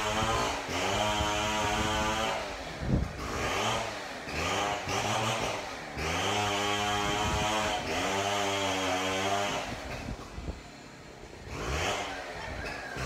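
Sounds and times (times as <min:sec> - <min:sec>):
chainsaw cutting: 0:00.0 - 0:13.0.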